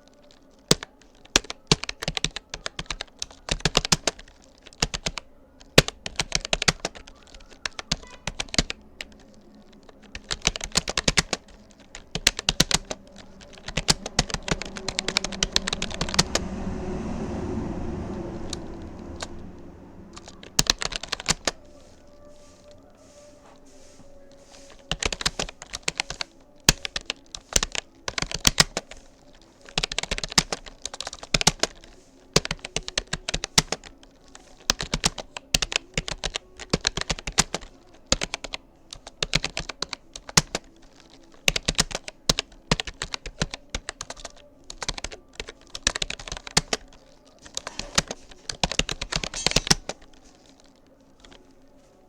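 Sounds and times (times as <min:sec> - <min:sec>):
computer keyboard keystrokes: 0:00.2 - 0:16.5, 0:20.2 - 0:22.7, 0:24.4 - 0:51.5.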